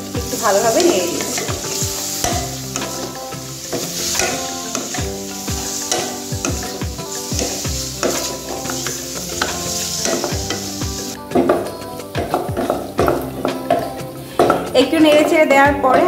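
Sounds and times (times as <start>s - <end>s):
background music: 0.0s - 16.0s
food sizzling in a frying pan: 0.0s - 16.0s
spatula scraping and knocking pan: 0.2s - 16.0s.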